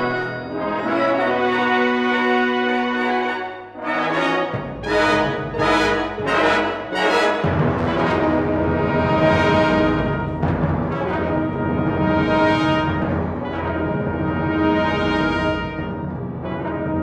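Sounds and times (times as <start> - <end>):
wind band playing: 0.0 - 17.0.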